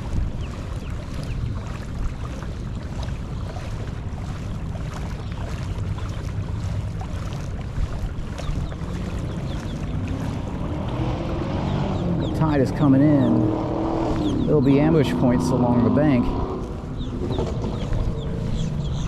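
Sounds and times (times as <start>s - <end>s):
water lapping against kayak hull: 0.0s - 19.0s
wind rush on microphone: 0.0s - 19.0s.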